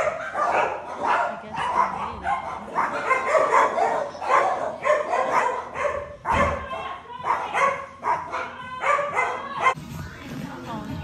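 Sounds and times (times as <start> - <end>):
dogs barking: 0.0 - 9.8.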